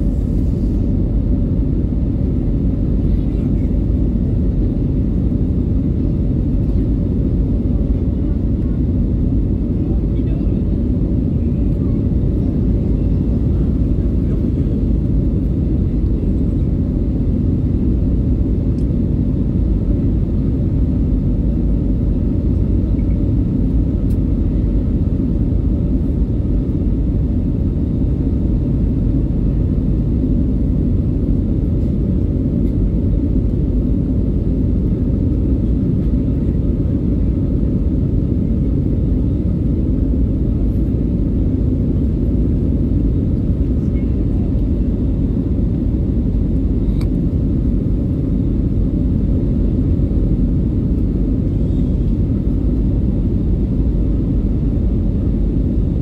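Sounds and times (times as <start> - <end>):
jet engine drone in cabin: 0.0 - 56.0.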